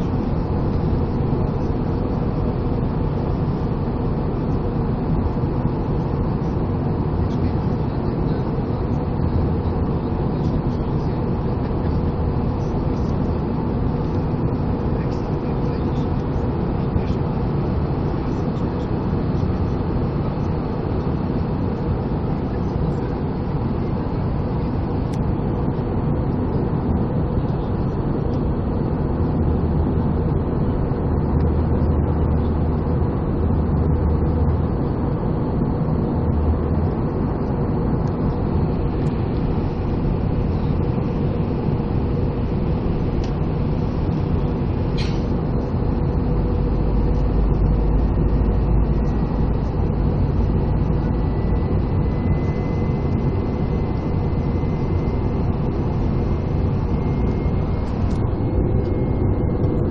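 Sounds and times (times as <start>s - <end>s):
airflow over fuselage: 0.0s - 59.9s
jet engine hum: 0.0s - 59.9s.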